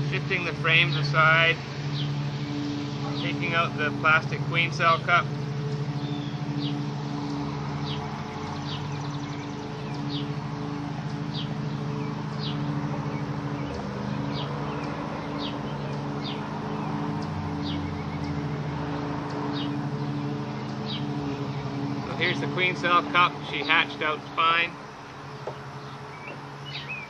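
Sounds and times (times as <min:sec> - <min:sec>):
bird chirping: 0:00.0 - 0:27.0
low drone of tones: 0:00.0 - 0:27.0.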